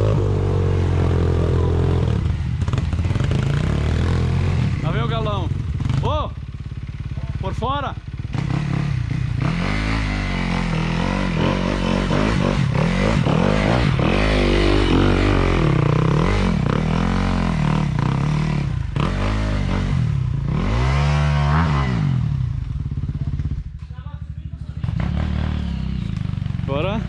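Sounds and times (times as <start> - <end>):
dirt bike engine revving: 0.0 - 23.7, 24.5 - 27.0.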